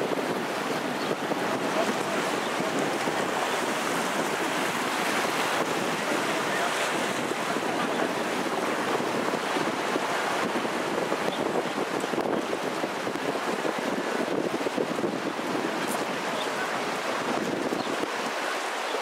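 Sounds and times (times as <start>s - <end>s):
river flowing: 0.0s - 19.0s
wind on microphone: 0.0s - 19.0s.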